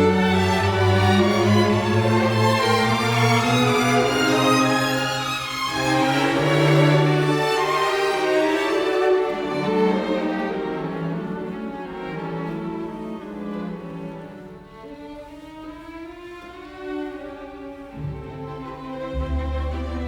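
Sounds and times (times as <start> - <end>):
slow bowed strings music: 0.0 - 20.0.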